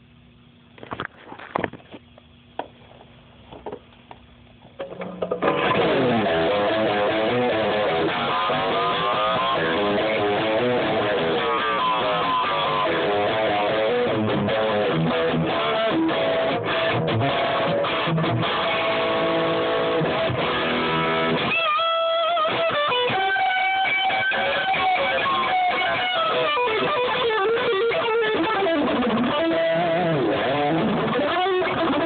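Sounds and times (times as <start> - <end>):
electric guitar with flanger: 4.8 - 32.0.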